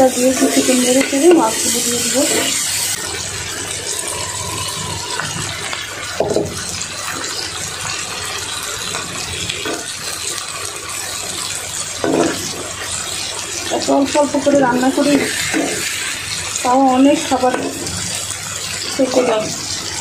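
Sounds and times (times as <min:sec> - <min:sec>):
tomatoes sizzling in a wok: 0:00.0 - 0:20.0.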